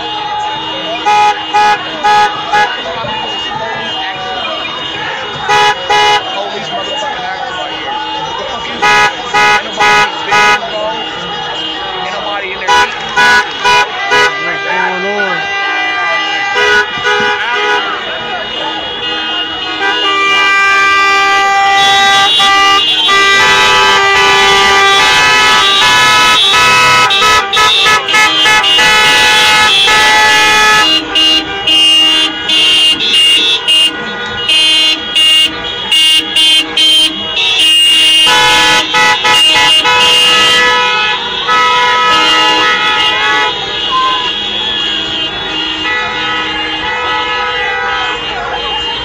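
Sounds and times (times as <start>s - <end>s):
car horns honking: 0.0s - 49.0s.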